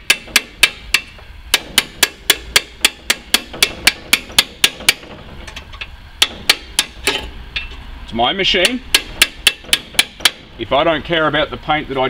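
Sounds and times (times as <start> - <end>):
spanner tapping on metal: 0.0 - 7.8, 8.6 - 10.5.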